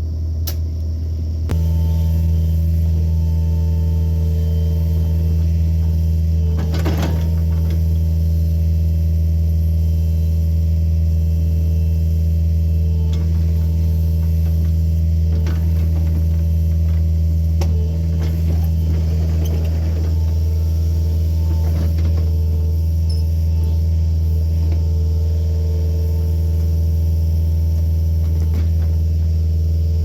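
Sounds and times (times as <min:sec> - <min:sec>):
diesel engine humming: 0:00.0 - 0:30.0.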